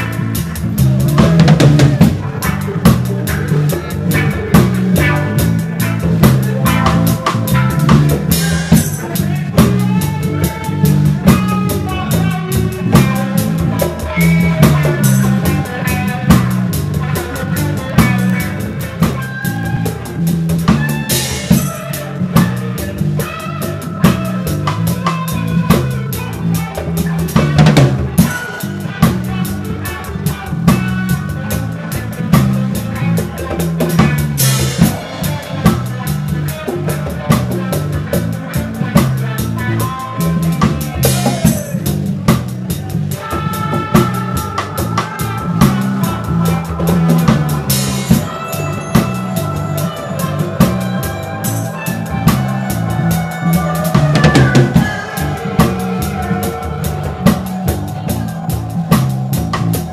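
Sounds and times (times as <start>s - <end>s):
bass line: 0.0s - 59.9s
loud close drums: 0.0s - 59.9s
reggae band playing live: 0.0s - 59.9s.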